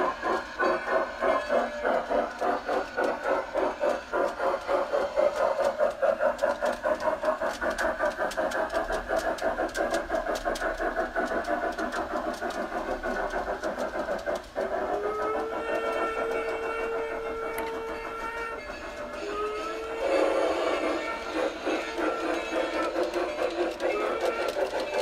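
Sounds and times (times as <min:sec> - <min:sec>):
steady steam whistle: 0:00.0 - 0:25.0
steam locomotive chuffing: 0:00.0 - 0:25.0.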